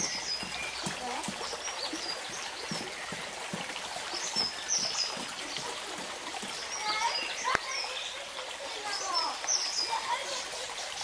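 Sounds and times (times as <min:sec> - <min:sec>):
birds chirping: 0:00.0 - 0:11.0
light rain: 0:00.0 - 0:11.0
stream trickling: 0:00.0 - 0:11.0.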